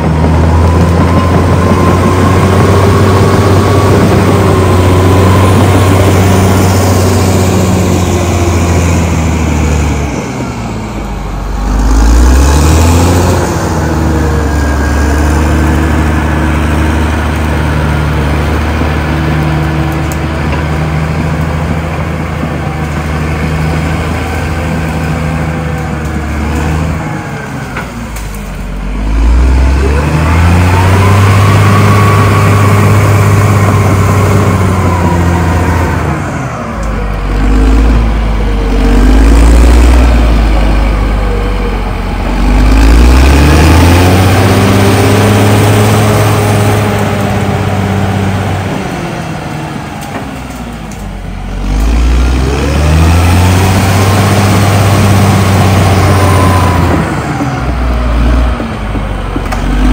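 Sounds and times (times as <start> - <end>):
bulldozer diesel engine working hard: 0.0 - 59.9.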